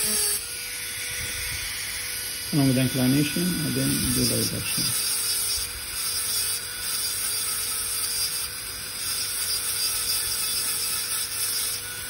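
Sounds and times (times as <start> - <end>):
dental drill whining: 0.0 - 12.0.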